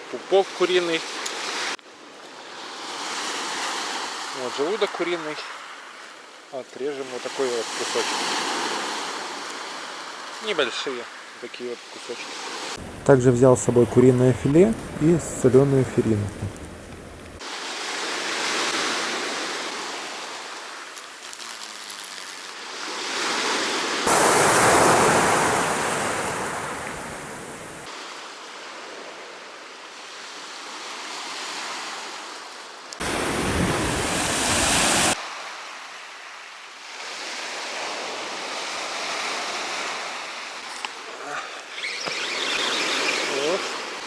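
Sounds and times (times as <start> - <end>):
sea surf washing onto beach: 0.0 - 41.7.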